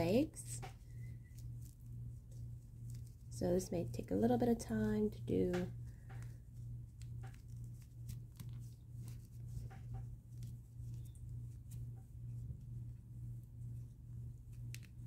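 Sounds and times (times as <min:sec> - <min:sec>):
fingers rustling yarn: 0:00.0 - 0:15.0
pulsing low hum: 0:00.0 - 0:15.0.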